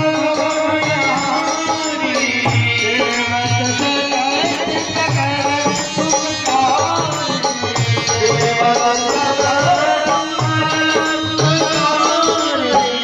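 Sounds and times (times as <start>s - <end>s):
devotional singing: 0.0s - 13.0s.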